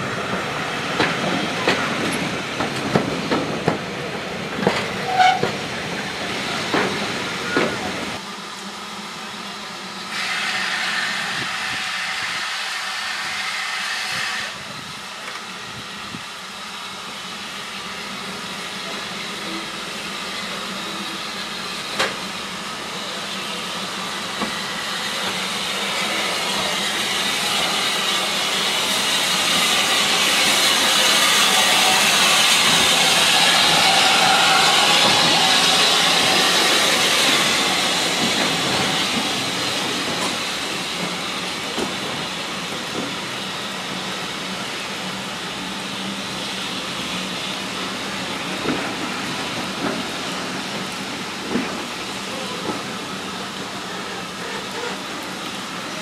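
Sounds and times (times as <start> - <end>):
steam locomotive hissing steam: 0.0 - 56.0
train coaches rolling on rails: 0.0 - 56.0.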